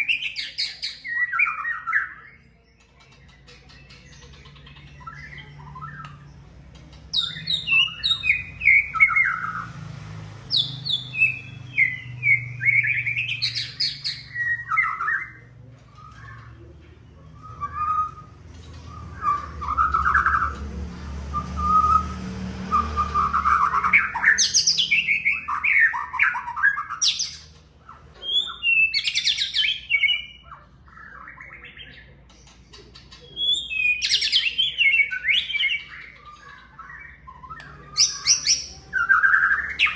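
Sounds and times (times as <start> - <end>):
songbird singing whistles and trills: 0.0 - 6.4, 7.1 - 9.8, 10.5 - 16.6, 17.2 - 27.6, 28.2 - 32.1, 33.1 - 39.9.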